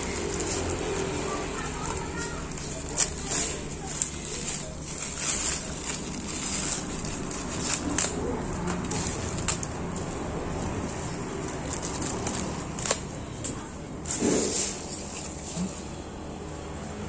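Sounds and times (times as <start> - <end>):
plastic bag crinkling and tearing: 0.0 - 10.1, 10.7 - 15.8.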